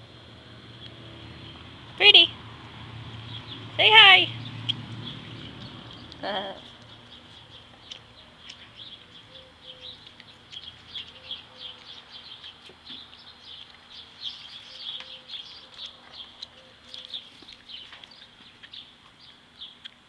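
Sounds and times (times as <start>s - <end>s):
small birds chirping: 3.2s - 20.0s.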